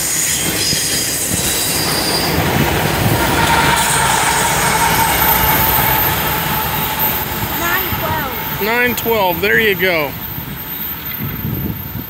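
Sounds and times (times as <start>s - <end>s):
metal wheel squeal: 0.0s - 11.2s
diesel locomotive passing: 0.0s - 12.0s
train wheels rumbling on rails: 0.0s - 12.0s.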